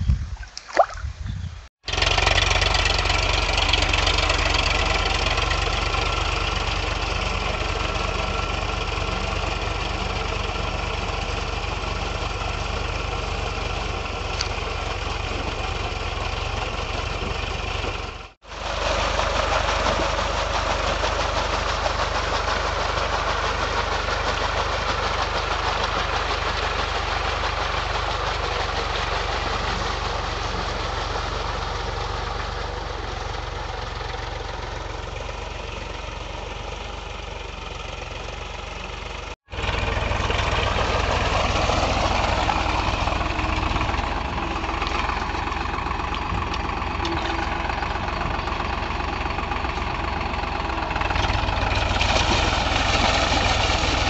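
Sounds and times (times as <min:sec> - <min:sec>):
tractor diesel engine running: 0:01.8 - 0:54.0.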